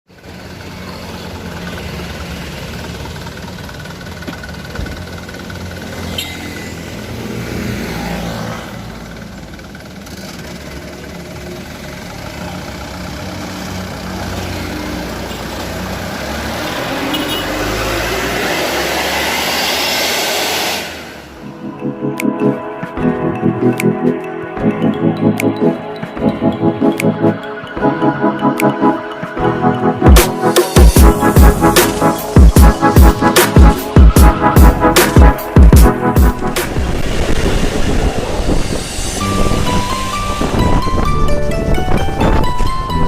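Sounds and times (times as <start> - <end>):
road and wind noise: 0.1 - 43.0
vehicle engine accelerating: 0.1 - 43.0.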